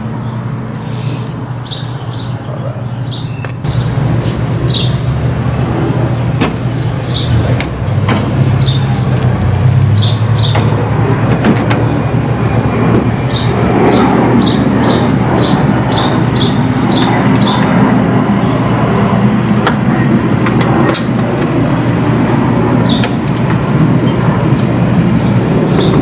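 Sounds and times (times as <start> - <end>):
birds chirping: 0.0 - 19.0, 22.7 - 26.0
vehicle engine running: 0.0 - 26.0.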